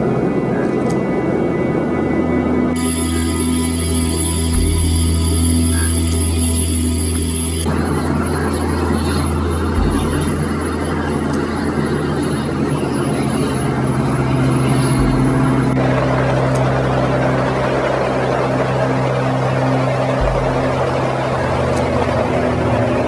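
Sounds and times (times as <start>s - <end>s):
aircraft engines droning: 0.0s - 23.0s.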